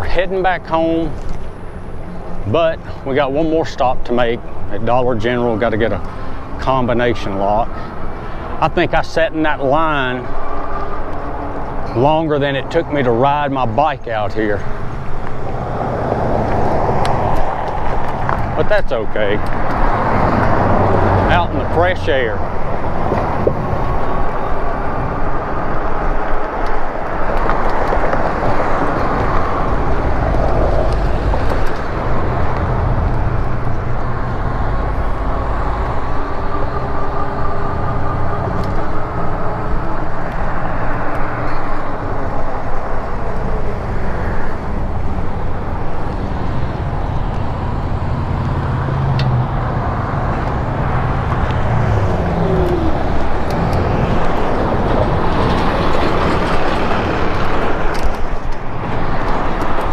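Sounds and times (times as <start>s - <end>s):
cars passing: 0.0s - 59.9s
wind rumble on microphone: 0.0s - 59.9s.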